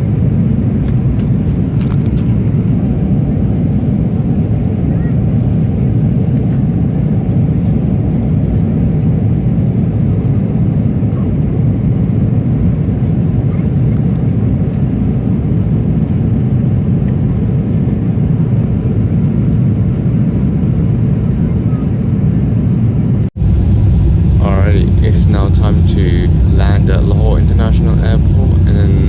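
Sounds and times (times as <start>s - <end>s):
jet cabin engine and airflow noise: 0.0s - 29.0s.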